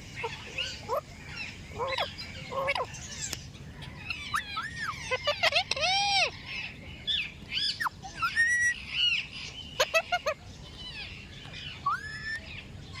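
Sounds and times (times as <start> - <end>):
parrot calling and chirping: 0.1 - 6.8, 7.5 - 12.6.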